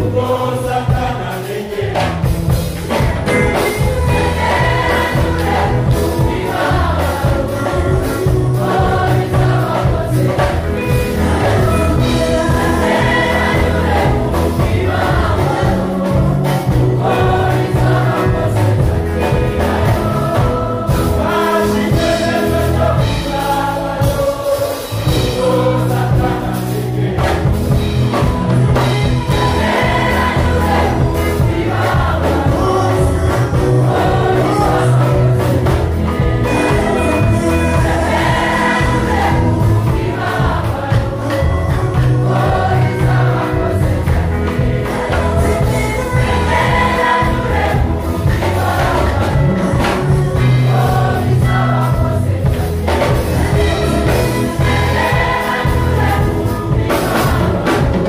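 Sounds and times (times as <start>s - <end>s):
choir singing gospel: 0.0s - 58.0s
low bass accompaniment: 0.0s - 58.0s.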